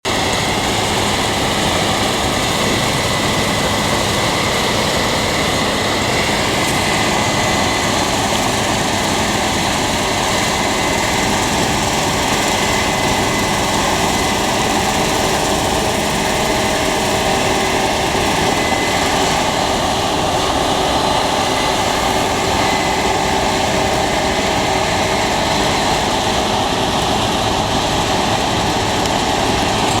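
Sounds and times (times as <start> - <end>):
combine harvester drone: 0.0 - 30.0
steady whining tones: 0.1 - 30.0.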